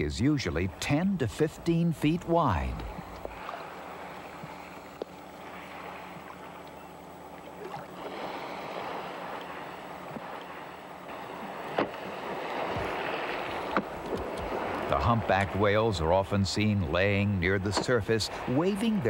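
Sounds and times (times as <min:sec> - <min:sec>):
sea water sloshing: 0:00.0 - 0:19.0.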